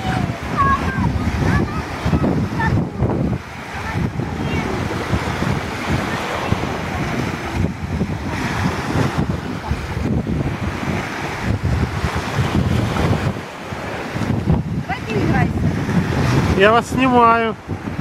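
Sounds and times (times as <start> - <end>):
sea surf: 0.0 - 18.0
wind buffeting the microphone: 0.0 - 18.0.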